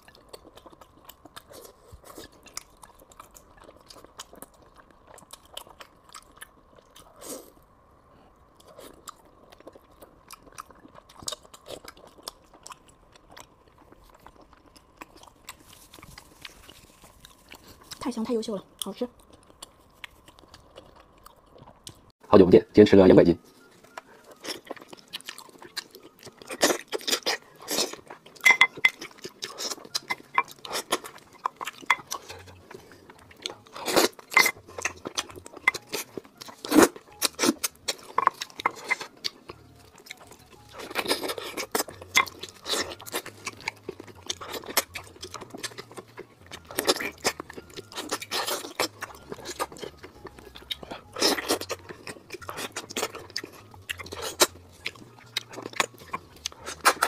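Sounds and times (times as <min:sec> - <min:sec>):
wet chewing and biting: 0:00.0 - 0:07.6, 0:08.5 - 0:22.1, 0:23.7 - 0:57.0.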